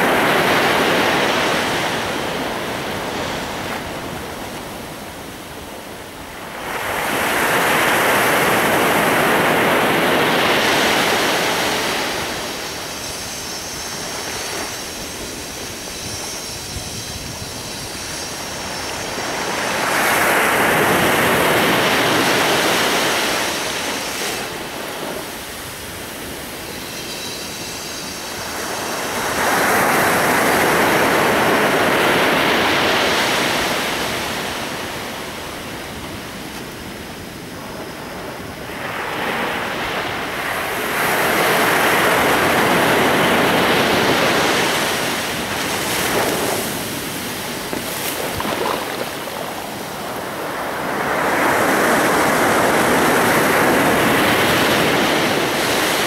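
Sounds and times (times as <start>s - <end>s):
surf breaking and washing: 0.0s - 56.0s.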